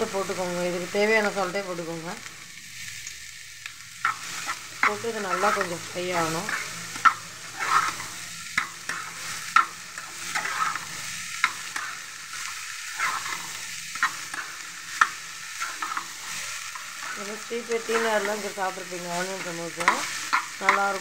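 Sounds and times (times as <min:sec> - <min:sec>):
onions sizzling in oil: 0:00.0 - 0:21.0
spatula knocking and scraping pan: 0:04.0 - 0:21.0.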